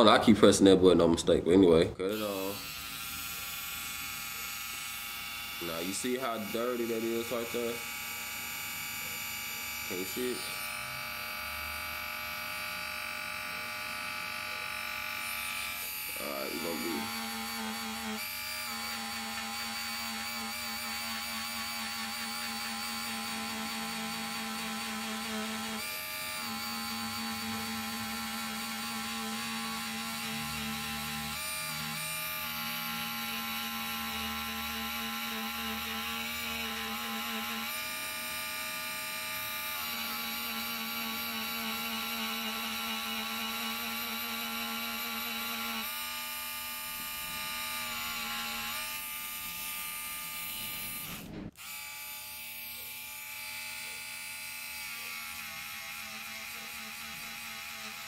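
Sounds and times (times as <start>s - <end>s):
rotary tool whine: 2.1s - 58.0s.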